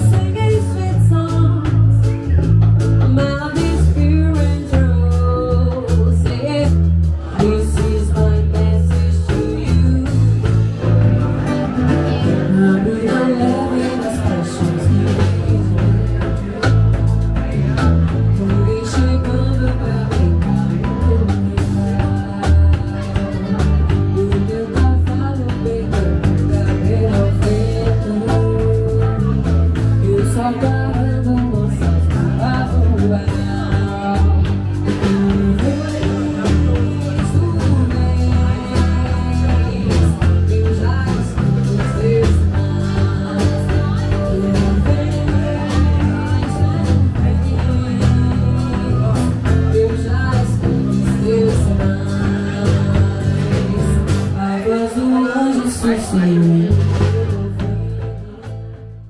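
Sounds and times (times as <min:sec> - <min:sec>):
guitar: 0:00.0 - 0:59.0
person singing: 0:00.0 - 0:59.0
walking bass line: 0:00.0 - 0:59.0.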